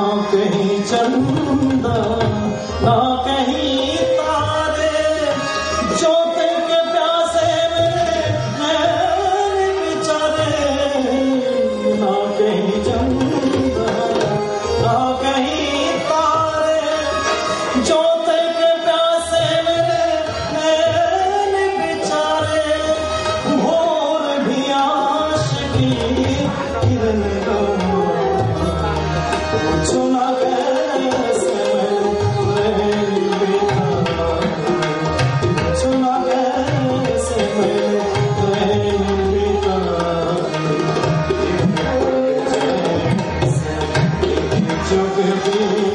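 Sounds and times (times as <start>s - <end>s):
harmonium: 0.0s - 45.9s
man singing: 0.0s - 45.9s
tabla rhythm: 0.0s - 45.9s.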